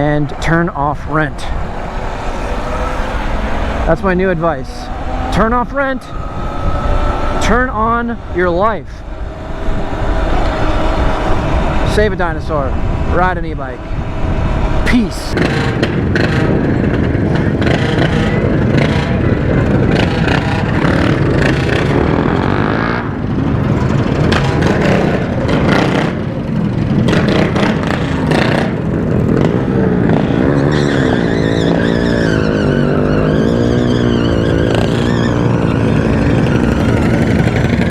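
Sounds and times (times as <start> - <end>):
motor vehicle engine running: 0.0 - 37.9.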